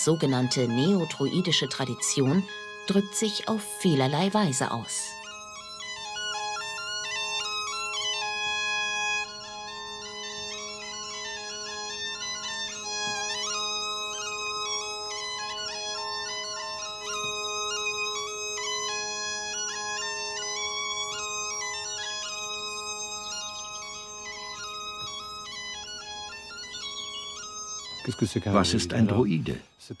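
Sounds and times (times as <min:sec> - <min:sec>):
bagpipe melody over drones: 0:00.0 - 0:29.8.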